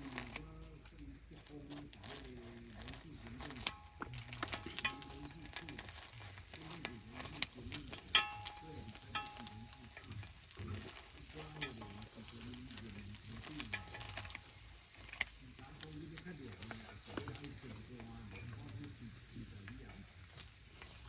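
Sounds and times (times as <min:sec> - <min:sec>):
utensil scraping a pan: 0:01.6 - 0:21.0.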